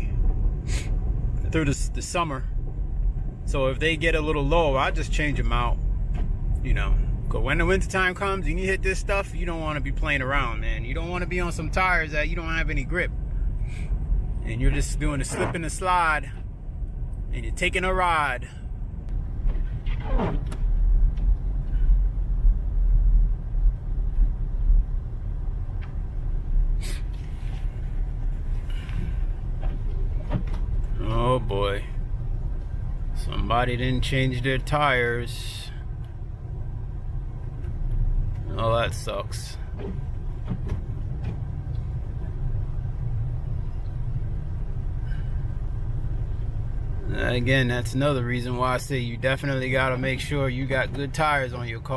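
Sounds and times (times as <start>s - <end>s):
car road and engine rumble: 0.0s - 51.9s.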